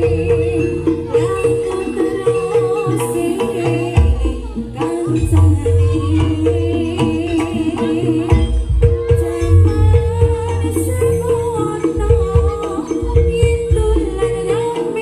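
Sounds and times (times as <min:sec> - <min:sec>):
hand drums: 0:00.0 - 0:15.0
wavering high melody: 0:00.0 - 0:15.0.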